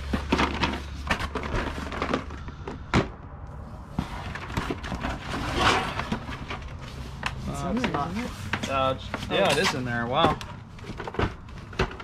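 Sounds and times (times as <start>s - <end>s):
boxes rustling and scraping: 0.0s - 12.0s.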